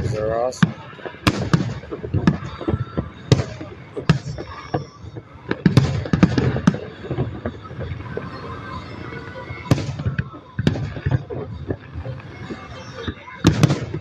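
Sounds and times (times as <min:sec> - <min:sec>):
fireworks bangs: 0:00.0 - 0:14.0
fireworks crackles: 0:00.0 - 0:14.0.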